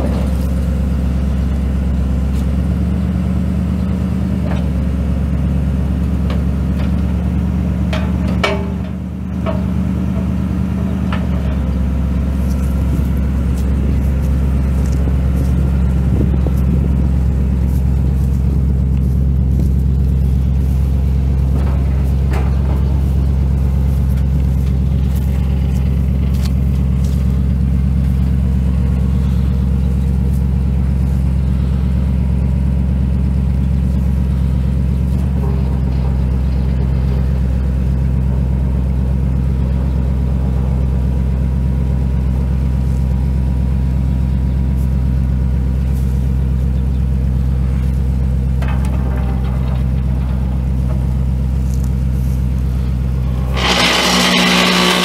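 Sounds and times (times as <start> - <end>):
pickup engine idling: 0.0 - 55.0.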